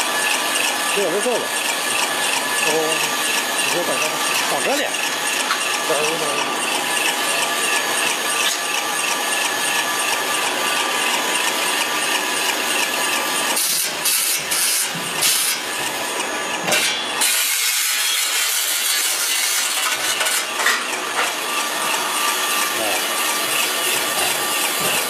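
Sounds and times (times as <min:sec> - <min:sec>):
extruder machine humming and whining: 0:00.0 - 0:25.0.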